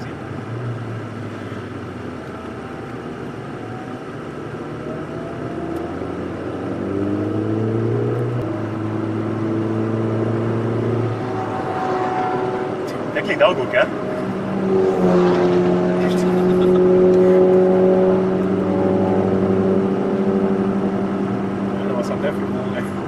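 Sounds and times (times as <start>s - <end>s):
car engine accelerating: 0.0s - 23.0s
road noise drone: 0.0s - 23.0s.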